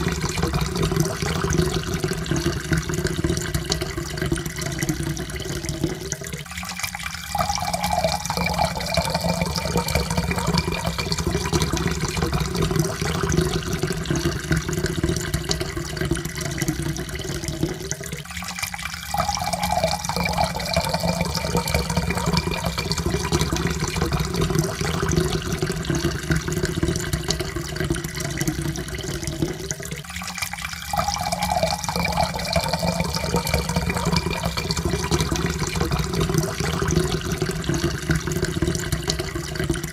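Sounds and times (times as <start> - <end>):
water pouring into a cup: 0.0 - 39.9.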